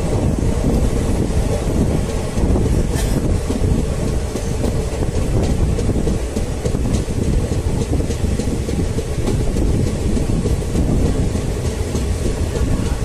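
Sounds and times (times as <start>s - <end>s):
train coach rumble: 0.0s - 13.0s
wind noise: 0.0s - 13.0s.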